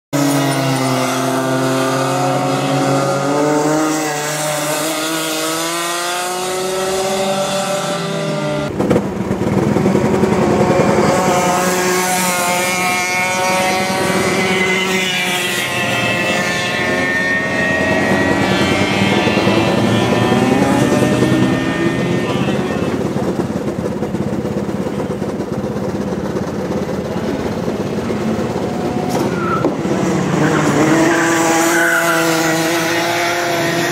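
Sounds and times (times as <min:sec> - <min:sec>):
kart engines buzzing: 0:00.2 - 0:33.9.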